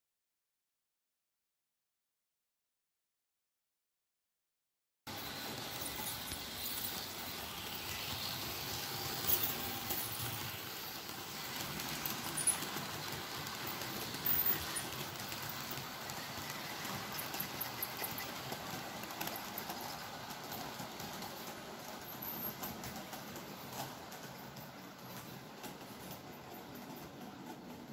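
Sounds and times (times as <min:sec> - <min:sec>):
model train wheels rattling on rail: 0:05.1 - 0:27.9.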